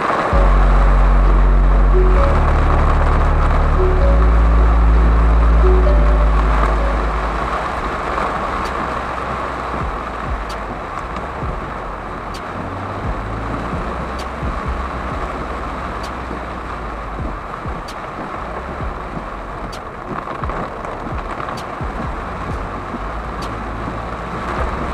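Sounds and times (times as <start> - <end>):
heavy rain on car roof: 0.0 - 3.8, 7.8 - 24.9
road and engine rumble: 0.0 - 24.9.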